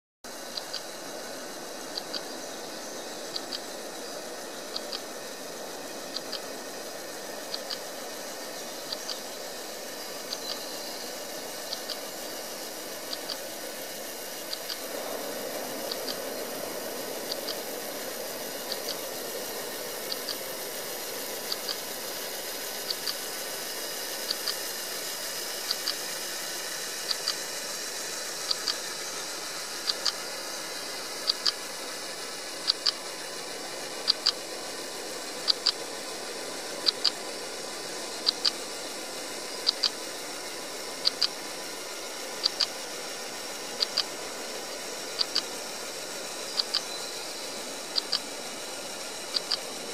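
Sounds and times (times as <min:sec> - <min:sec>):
steady hiss: 0:00.3 - 0:49.9.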